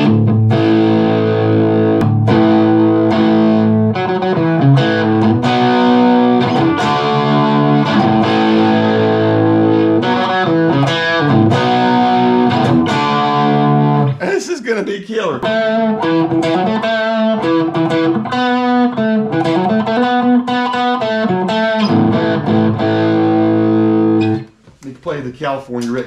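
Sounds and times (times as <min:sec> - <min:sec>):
electric guitar strummed chords: 0:00.0 - 0:14.2, 0:15.3 - 0:24.5.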